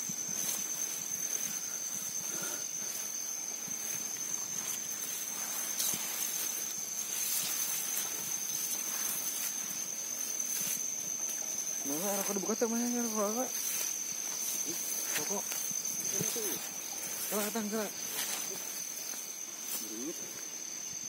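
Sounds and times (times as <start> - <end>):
insects trilling: 0.0 - 21.0
rustling through undergrowth: 0.0 - 21.0.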